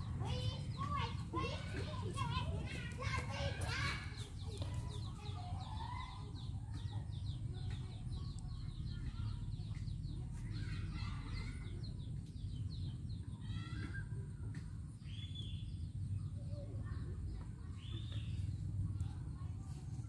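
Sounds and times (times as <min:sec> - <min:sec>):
birds chirping and clucking: 0:00.0 - 0:20.0
low steady rumble: 0:00.0 - 0:20.0.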